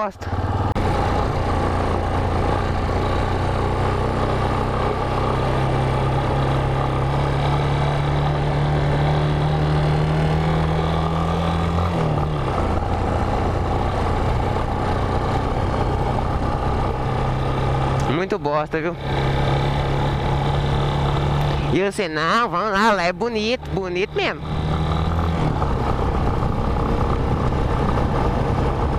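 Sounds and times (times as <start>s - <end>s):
motorcycle engine running: 0.0s - 28.9s
wind and road rush: 0.0s - 28.9s.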